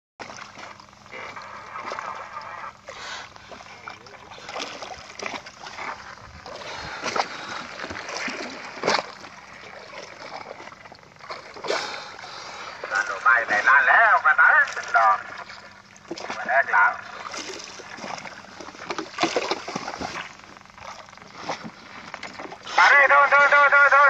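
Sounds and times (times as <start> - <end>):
sharp water splashes: 0.2 - 22.9
sea water lapping beside boat: 0.2 - 24.0.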